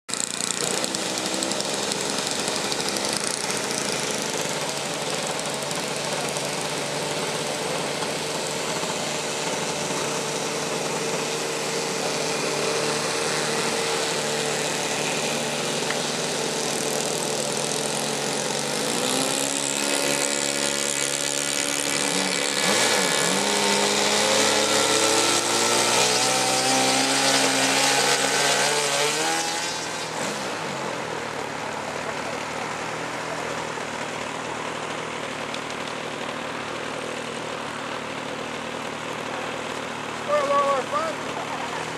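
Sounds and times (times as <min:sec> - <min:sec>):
model plane engine and propeller: 0:00.1 - 0:41.9.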